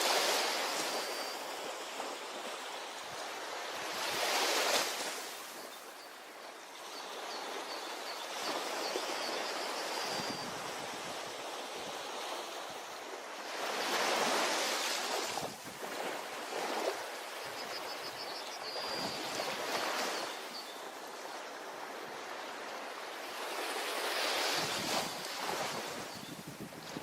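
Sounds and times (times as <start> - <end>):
ocean waves breaking on beach: 0.0 - 27.0.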